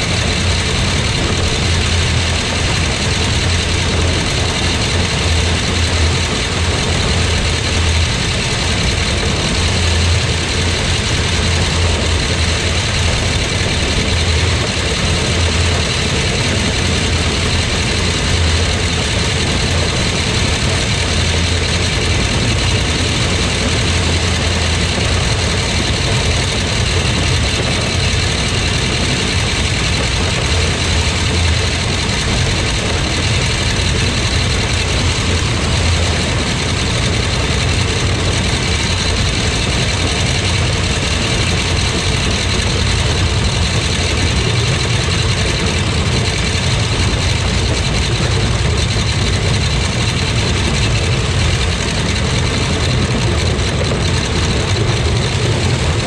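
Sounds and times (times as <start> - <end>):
tractor and combine running: 0.0 - 56.0.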